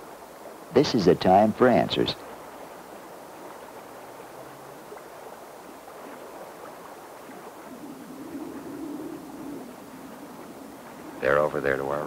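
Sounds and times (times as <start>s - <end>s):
faint low drone: 0.0s - 12.0s
river water flowing: 0.0s - 12.0s.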